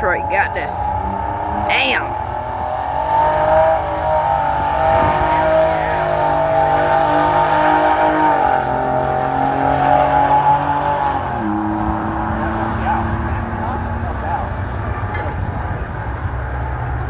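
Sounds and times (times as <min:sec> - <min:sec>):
diesel engine running hard: 0:00.0 - 0:17.0.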